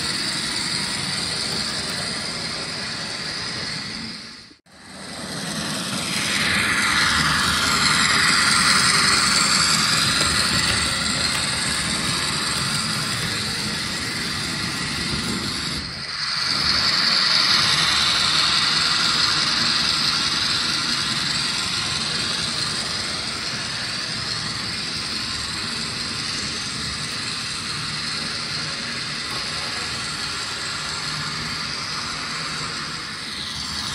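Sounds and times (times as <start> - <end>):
model train running on track: 0.0 - 33.9.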